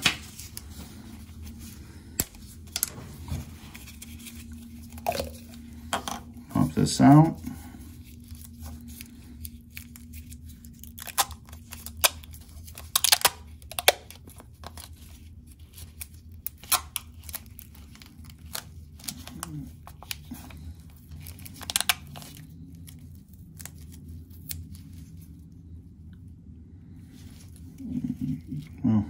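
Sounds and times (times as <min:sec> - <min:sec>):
plastic wrapper crinkling and tearing: 0:00.0 - 0:25.8.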